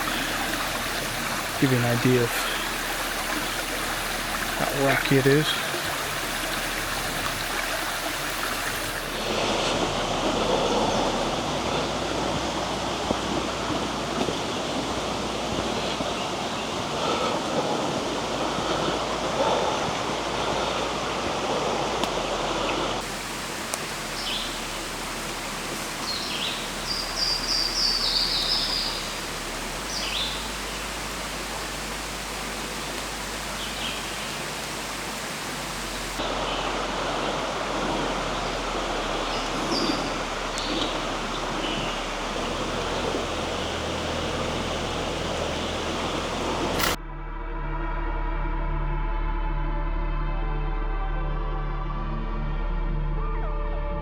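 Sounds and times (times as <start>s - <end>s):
creek rushing over stones: 0.0s - 47.0s.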